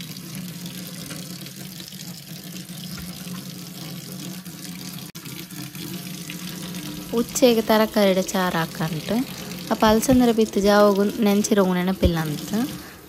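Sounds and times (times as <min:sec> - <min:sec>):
sink being scrubbed: 0:00.0 - 0:13.0
tap water splashing into sink: 0:00.0 - 0:13.0.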